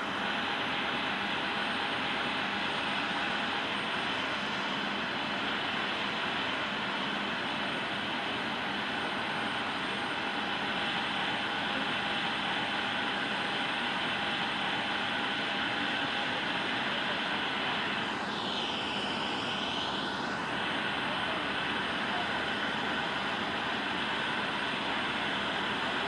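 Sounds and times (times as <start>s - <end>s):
jet engines at taxi power: 0.0s - 26.0s.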